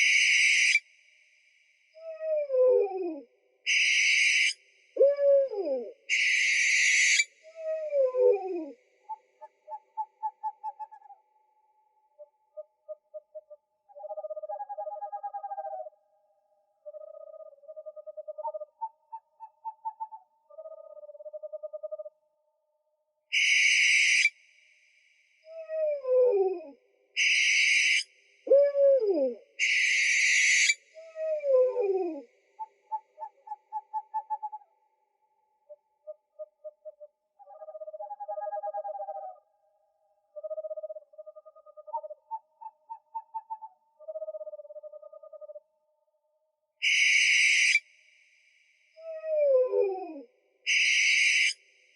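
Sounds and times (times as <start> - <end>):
owl trilled hoots: 0.0 - 0.8, 2.0 - 11.2, 12.1 - 16.0, 16.8 - 22.1, 23.3 - 24.4, 25.5 - 34.7, 35.6 - 39.5, 40.3 - 45.6, 46.8 - 47.8, 49.0 - 51.6.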